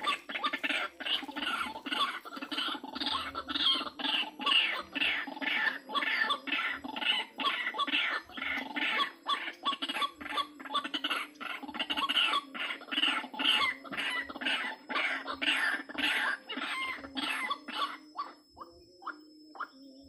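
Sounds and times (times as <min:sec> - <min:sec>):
waterhen calling: 0:00.0 - 0:19.7
steady low hum: 0:00.0 - 0:20.0.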